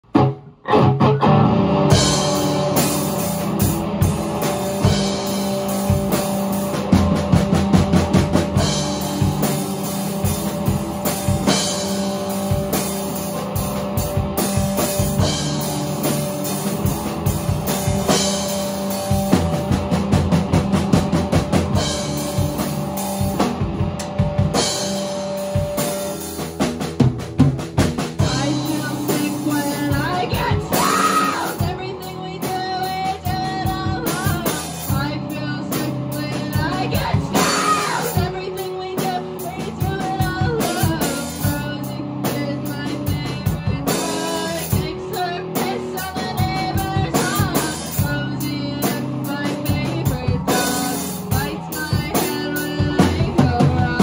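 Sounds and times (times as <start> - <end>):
drum kit beat: 0.0 - 54.0
electric bass: 0.0 - 54.0
electric guitar: 0.0 - 54.0.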